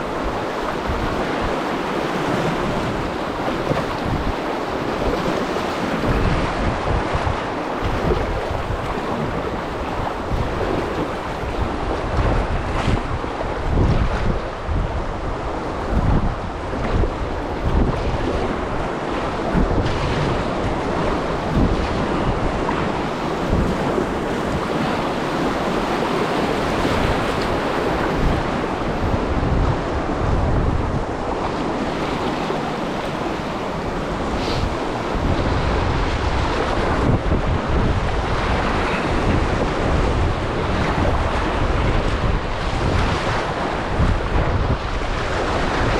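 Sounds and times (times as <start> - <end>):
river water rushing: 0.0 - 45.9
wind buffeting microphone: 0.0 - 45.9.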